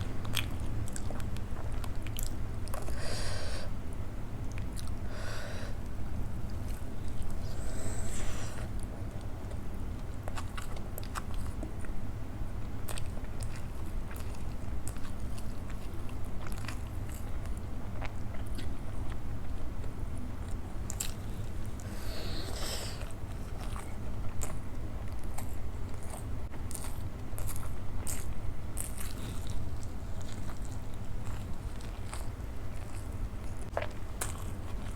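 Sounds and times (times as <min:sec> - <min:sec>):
low steady hum: 0:00.0 - 0:34.9
person chewing food: 0:00.0 - 0:34.9.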